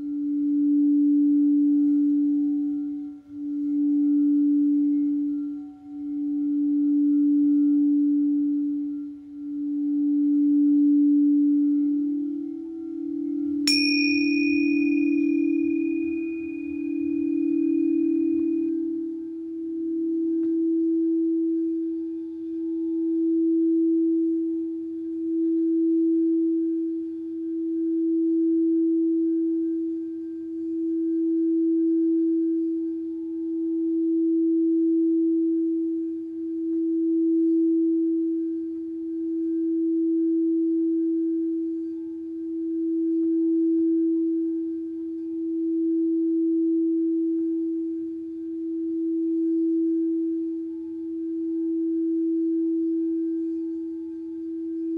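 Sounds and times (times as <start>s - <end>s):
lower singing bowl tone: 0.0s - 54.9s
singing bowl tone: 0.0s - 54.9s.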